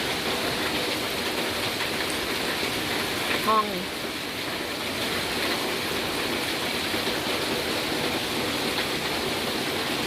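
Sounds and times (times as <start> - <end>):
rain falling: 0.0 - 10.0
water rushing: 0.0 - 10.0.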